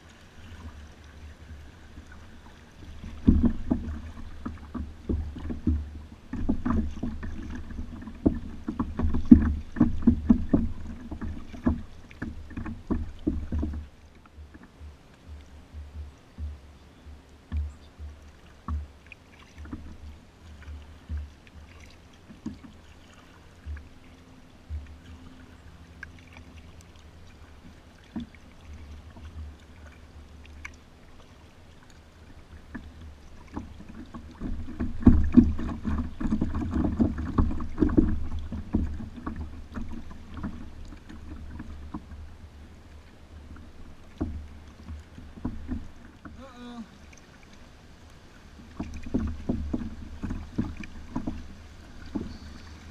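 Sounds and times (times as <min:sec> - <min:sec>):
paddle strokes splashing: 0:00.0 - 0:52.9
water lapping at hull: 0:00.0 - 0:52.9.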